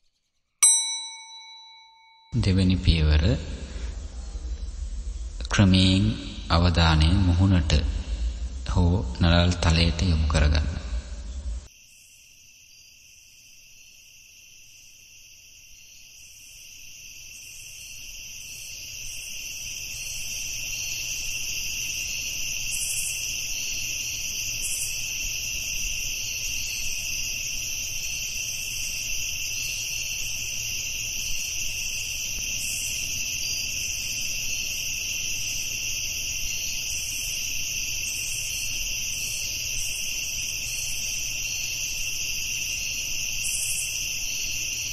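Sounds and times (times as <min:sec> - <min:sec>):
crickets trilling: 0:02.4 - 0:44.9.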